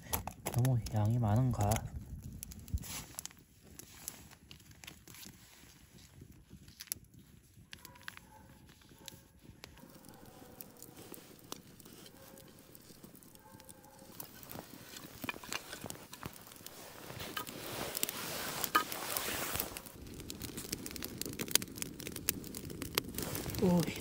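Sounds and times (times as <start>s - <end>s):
wood campfire crackling: 0.0s - 24.0s.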